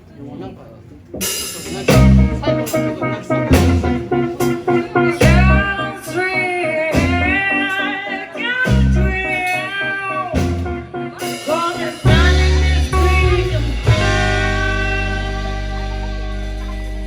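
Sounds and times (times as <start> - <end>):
guitar: 1.1 - 17.0
bass notes: 1.2 - 17.0
person singing: 2.4 - 17.0.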